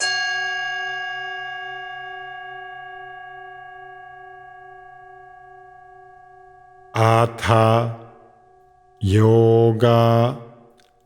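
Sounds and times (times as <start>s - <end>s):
meditation bell ringing: 0.0s - 9.0s.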